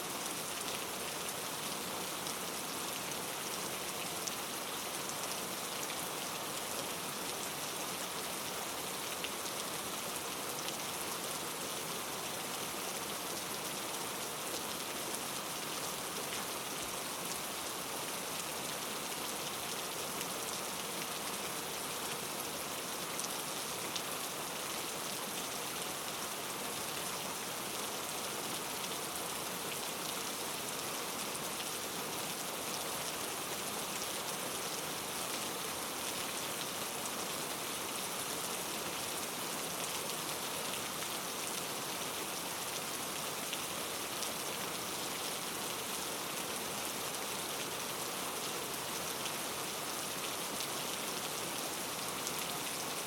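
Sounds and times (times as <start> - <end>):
rain pattering on a surface: 0.1 - 53.0.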